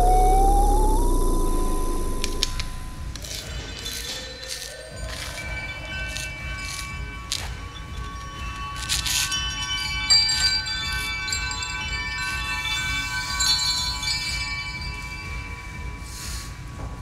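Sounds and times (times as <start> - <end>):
shimmering chime-like tones: 0.0 - 17.0.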